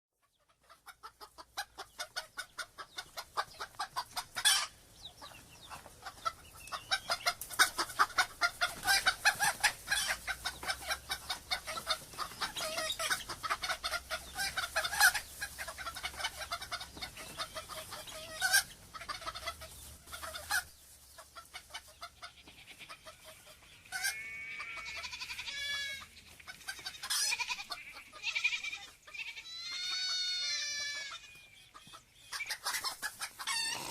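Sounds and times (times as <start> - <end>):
chickens clucking: 0.2 - 33.9.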